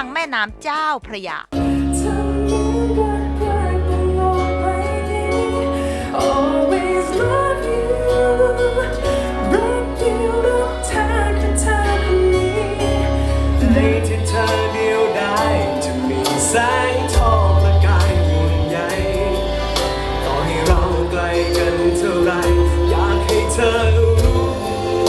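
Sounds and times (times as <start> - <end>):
woman singing: 1.2 - 25.0
pop ballad: 1.6 - 25.0.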